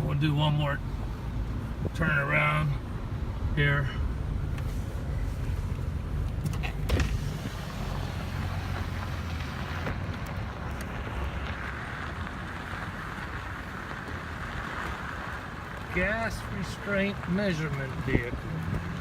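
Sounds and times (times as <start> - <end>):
car engine and road rumble: 0.0 - 19.0
rush of air and tyre noise: 0.0 - 19.0.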